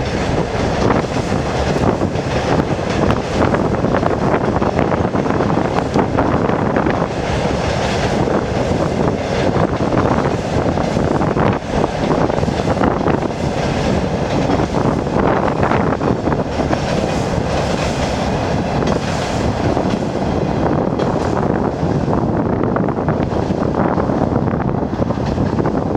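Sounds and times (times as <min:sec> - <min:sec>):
train rumble on bridge: 0:00.0 - 0:25.9
wheels clattering on rails: 0:00.0 - 0:25.9
wind buffeting microphone: 0:00.0 - 0:25.9.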